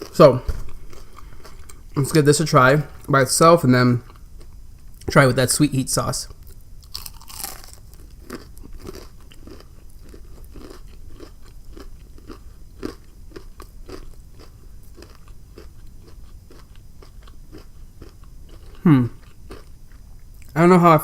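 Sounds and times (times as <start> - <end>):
crunchy chewing of fried shrimp: 0.0 - 20.6.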